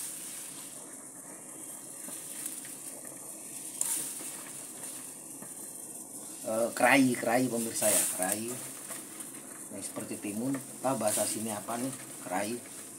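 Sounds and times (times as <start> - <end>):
broth boiling and bubbling: 0.0 - 12.9.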